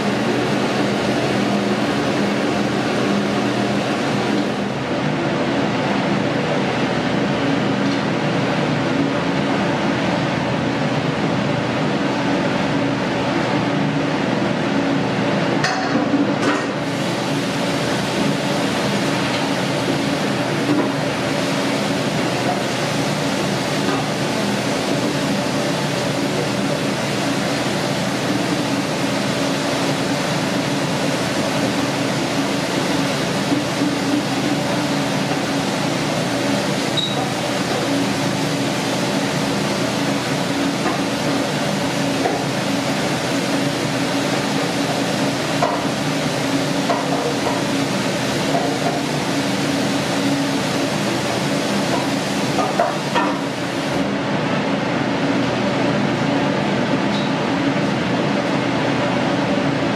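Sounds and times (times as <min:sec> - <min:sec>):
steady whirring hum: 0:00.0 - 0:59.9.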